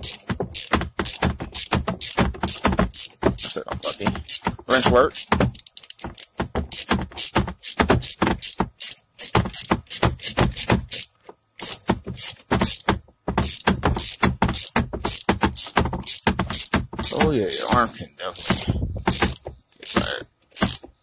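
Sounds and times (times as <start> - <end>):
ratchet wrench clicking: 0.0 - 17.7, 18.3 - 20.9.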